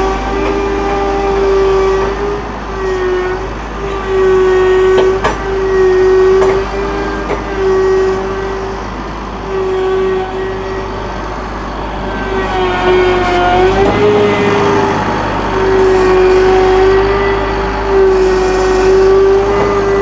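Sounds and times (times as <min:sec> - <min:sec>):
diesel tractor engine droning: 0:00.0 - 0:20.0
high engine whine: 0:00.0 - 0:20.0.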